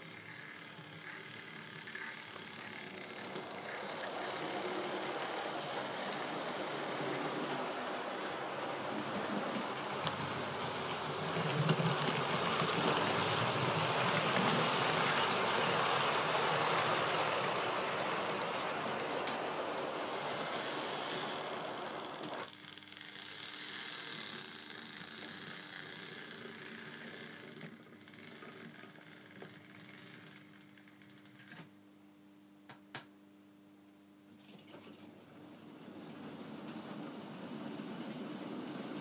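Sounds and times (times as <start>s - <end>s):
model train wheels rumbling: 0.0s - 30.3s, 35.6s - 39.0s.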